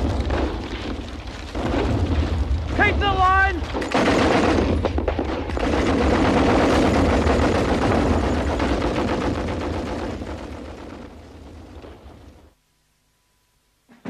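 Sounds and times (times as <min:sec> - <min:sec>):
rapid machine-gun fire: 0:00.0 - 0:12.5.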